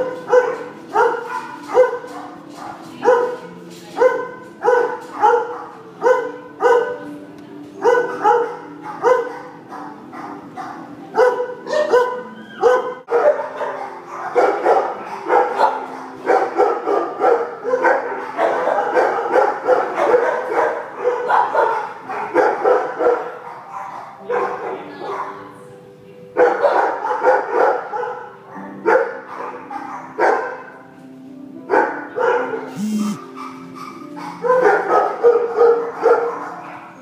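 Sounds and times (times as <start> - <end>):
dogs barking: 0.0 - 25.6, 26.3 - 30.9, 31.7 - 37.0.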